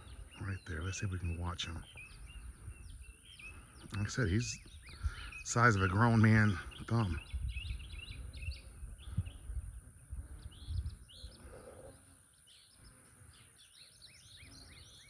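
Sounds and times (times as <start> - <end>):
low rumble on microphone: 0.0 - 12.1
birds chirping: 0.0 - 15.0.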